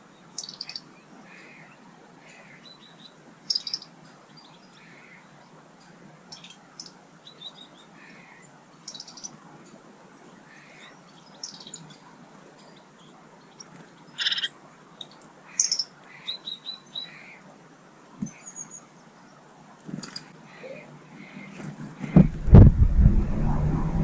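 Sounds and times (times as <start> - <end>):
small birds chirping: 0.0 - 22.3.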